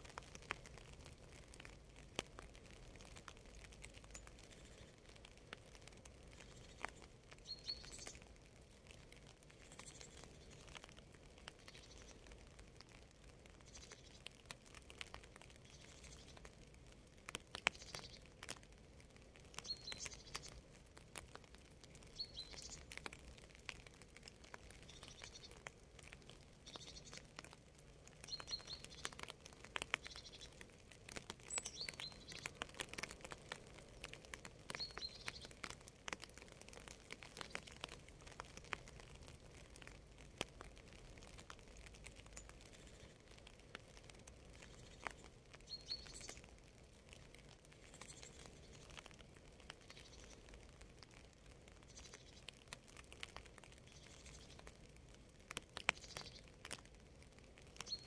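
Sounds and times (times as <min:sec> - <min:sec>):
raindrops pattering and dripping: 0:00.0 - 0:58.0
small birds chirping: 0:00.1 - 0:58.0.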